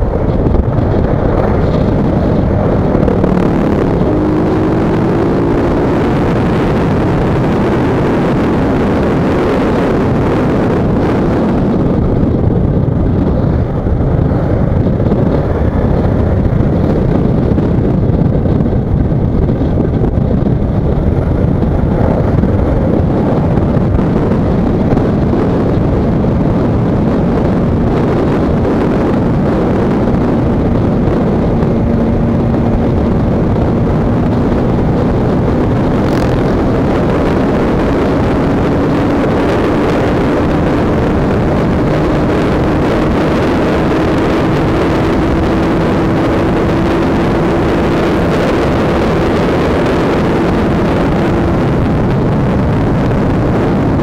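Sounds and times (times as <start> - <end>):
motorcycle engine cruising: 0.0 - 54.0
wind rushing over microphone: 0.0 - 54.0.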